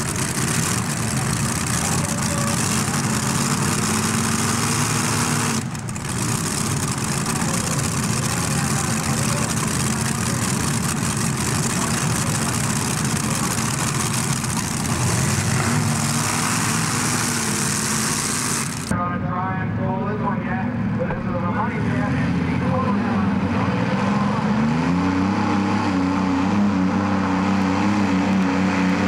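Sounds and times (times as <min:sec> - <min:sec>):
tractor engines idling: 0:00.0 - 0:29.0.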